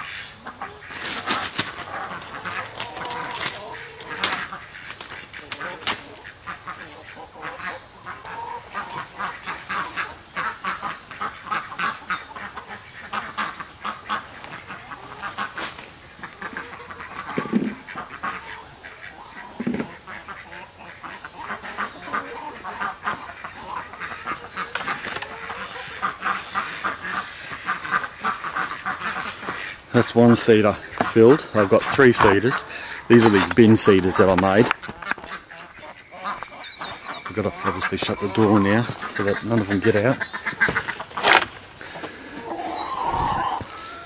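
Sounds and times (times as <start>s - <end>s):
ducks quacking: 0.0s - 44.0s.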